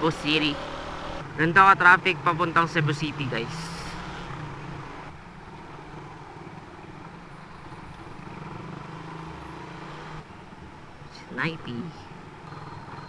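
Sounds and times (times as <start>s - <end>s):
motorcycle engine humming: 0.0s - 13.0s
surrounding traffic: 0.0s - 13.0s.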